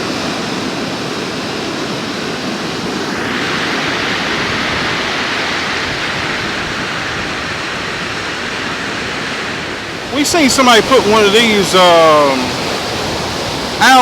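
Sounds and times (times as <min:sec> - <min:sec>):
ocean surf washing in: 0:00.0 - 0:14.0.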